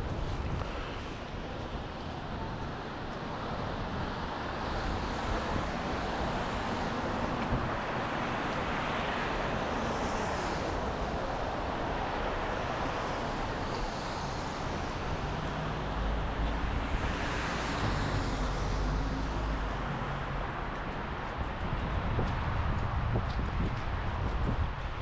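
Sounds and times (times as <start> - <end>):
traffic hiss of cars and tyres: 0.0 - 25.0
vehicles passing: 0.0 - 25.0.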